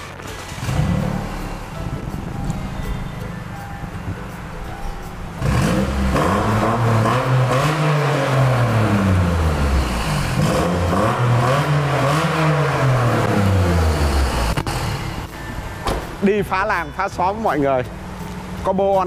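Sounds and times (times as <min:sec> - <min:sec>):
car engine starting and revving: 0:00.0 - 0:15.3.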